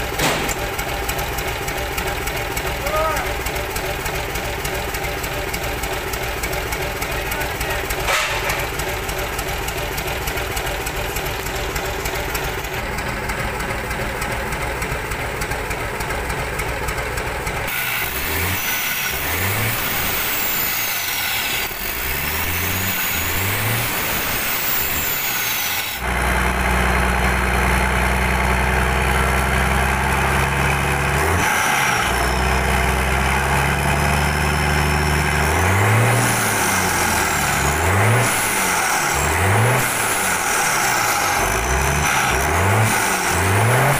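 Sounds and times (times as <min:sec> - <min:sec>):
diesel truck engine revving: 0:00.0 - 0:43.9.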